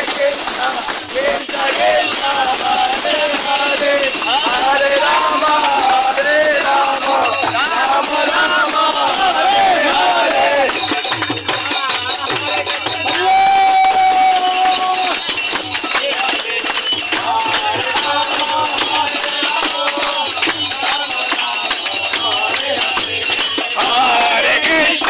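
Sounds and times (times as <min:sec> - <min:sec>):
hand clapping: 0:00.0 - 0:25.0
jingling hand cymbals: 0:00.0 - 0:25.0
men chanting together: 0:00.0 - 0:25.0.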